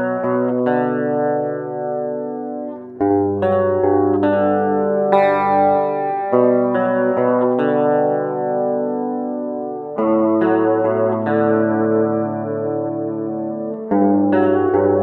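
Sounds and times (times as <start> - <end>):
electric guitar chords ringing: 0.0 - 15.0.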